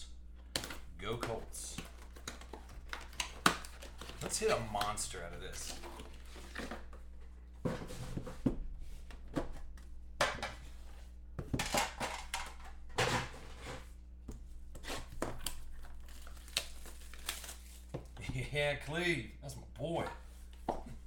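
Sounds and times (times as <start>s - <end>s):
cardboard and wrapping rustling: 0.7s - 9.8s, 10.6s - 18.4s.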